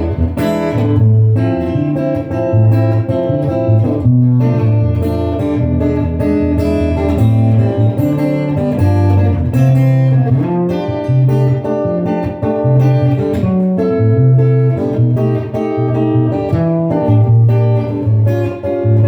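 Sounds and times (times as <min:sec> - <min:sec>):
bass line: 0:00.0 - 0:19.0
guitar instrumental music: 0:00.0 - 0:19.0.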